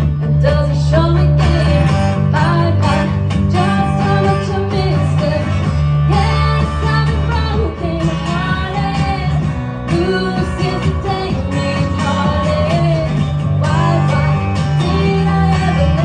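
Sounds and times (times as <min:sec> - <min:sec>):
strummed guitar: 0:00.0 - 0:16.0
woman singing into microphone: 0:00.0 - 0:16.0.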